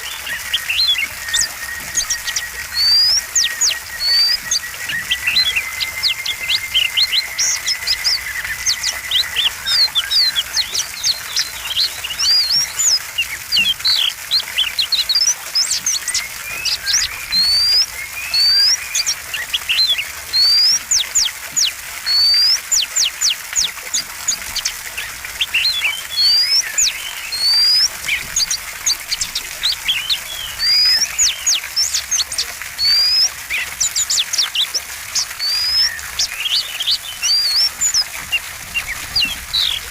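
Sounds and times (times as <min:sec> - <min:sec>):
songbird chirping and whistling: 0:00.0 - 0:39.9
thin steady high tone: 0:00.0 - 0:39.9.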